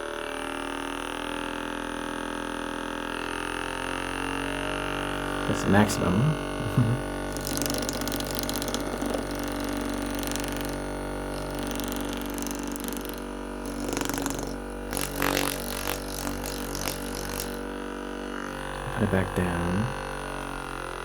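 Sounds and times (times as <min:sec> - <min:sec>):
massage gun motor buzz: 0:00.0 - 0:21.0.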